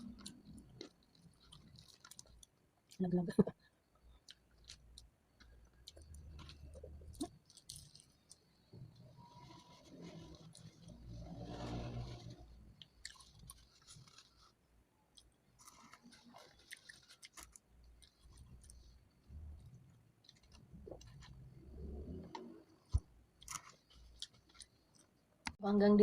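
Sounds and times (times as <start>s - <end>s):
person chewing and eating: 0.0s - 3.0s, 4.0s - 25.2s.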